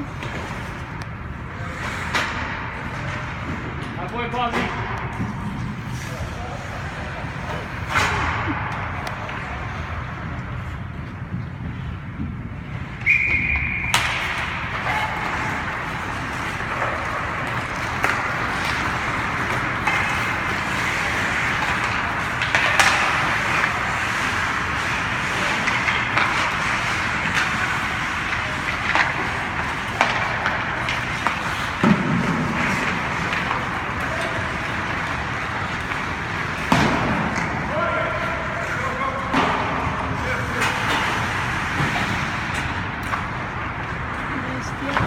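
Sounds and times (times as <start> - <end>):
hockey sticks and puck clacking: 0.0 - 45.0.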